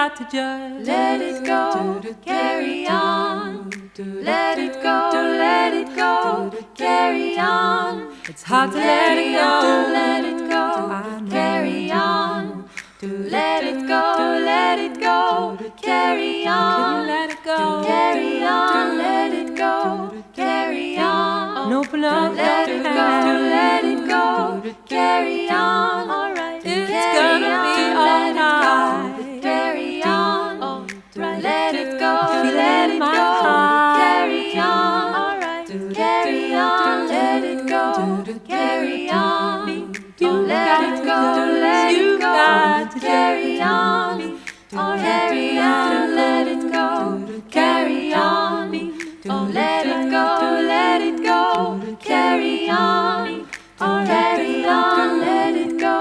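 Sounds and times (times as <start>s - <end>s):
voices singing in harmony: 0.0s - 56.0s.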